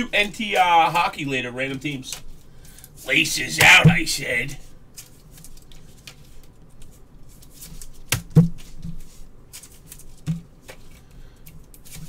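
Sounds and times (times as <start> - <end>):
cards rustling on a table: 1.7 - 4.3, 4.9 - 12.0.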